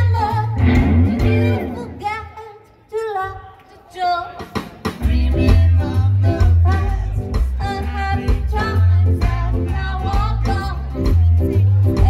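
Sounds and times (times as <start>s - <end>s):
rockabilly band playing: 0.0s - 2.4s, 4.4s - 12.0s
woman singing: 0.0s - 12.0s.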